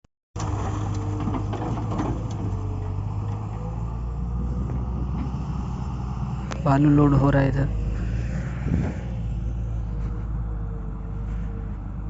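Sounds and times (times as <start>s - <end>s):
diesel engine rumbling: 0.4s - 12.0s.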